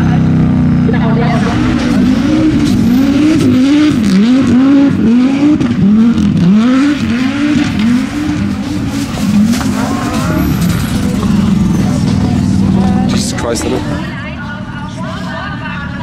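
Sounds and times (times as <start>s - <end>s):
turbo car engine revving: 0.0s - 14.3s.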